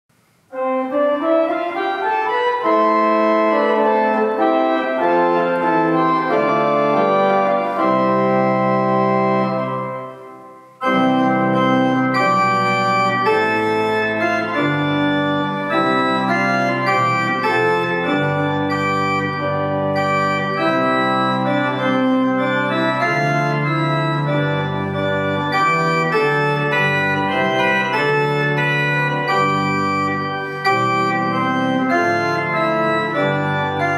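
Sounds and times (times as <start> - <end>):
pipe organ playing full chords: 0.5 - 33.9.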